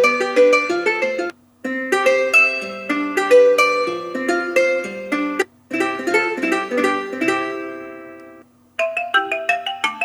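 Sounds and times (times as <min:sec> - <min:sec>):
ringtone of plucked notes: 0:00.0 - 0:10.0.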